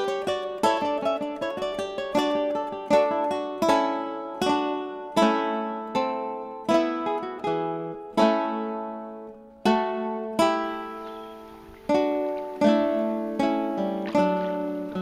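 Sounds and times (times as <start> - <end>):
plucked string instrument music: 0.0 - 15.0.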